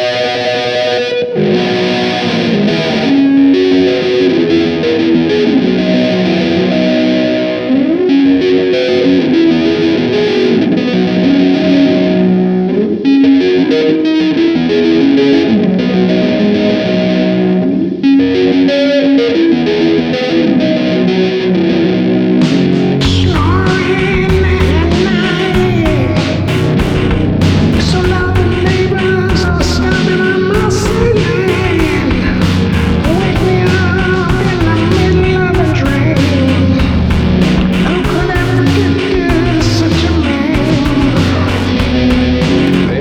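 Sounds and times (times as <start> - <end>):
distorted electric guitar melody: 0.0 - 43.0.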